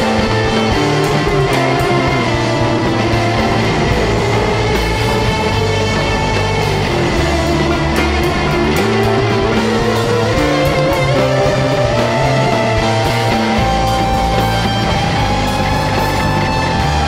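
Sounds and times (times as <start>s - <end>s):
bass line: 0.0s - 17.0s
distorted electric guitars: 0.0s - 17.0s
drums: 0.0s - 17.0s.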